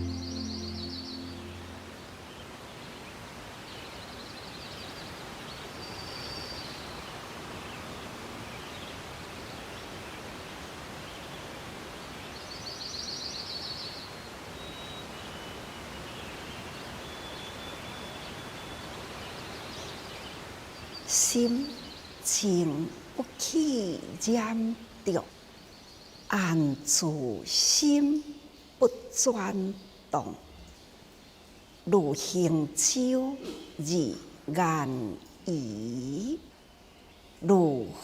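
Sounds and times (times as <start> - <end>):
soft steady hiss: 0.0 - 38.0.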